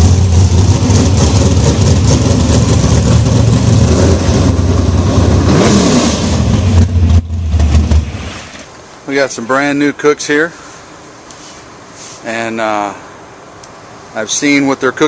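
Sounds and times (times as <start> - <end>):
low engine rumble: 0.0 - 15.0
wind and road noise: 0.0 - 15.0.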